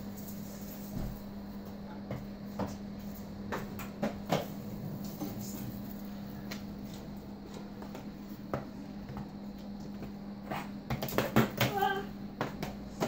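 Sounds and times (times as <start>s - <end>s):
roller skates rolling on concrete: 0.0s - 13.0s
steady low hum: 0.0s - 13.0s.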